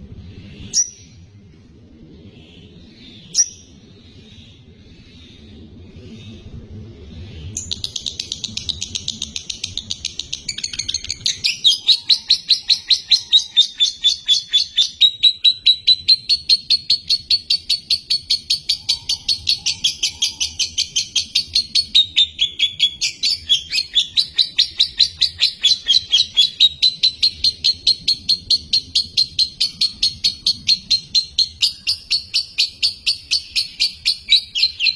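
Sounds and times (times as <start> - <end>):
lovebird chirping: 0.6 - 1.2, 2.6 - 4.5, 7.6 - 34.9.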